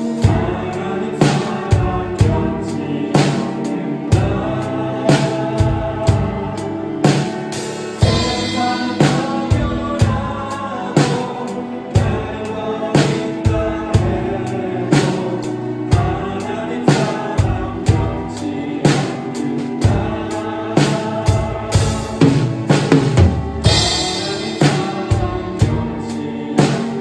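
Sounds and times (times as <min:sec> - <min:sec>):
drum kit playing: 0:00.0 - 0:27.0
worship song with singing: 0:00.0 - 0:27.0.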